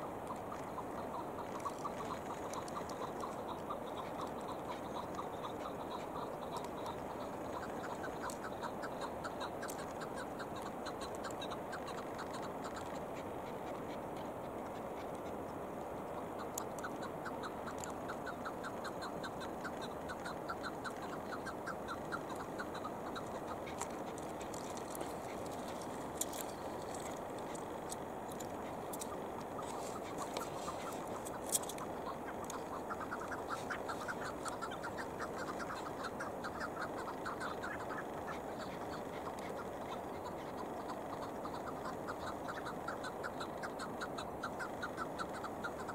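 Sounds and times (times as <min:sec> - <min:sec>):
partridge clucking calls: 0:00.0 - 0:45.9.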